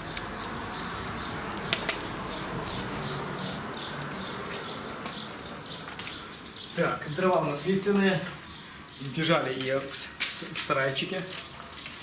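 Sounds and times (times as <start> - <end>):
burning logs crackling and popping: 0.0 - 12.0.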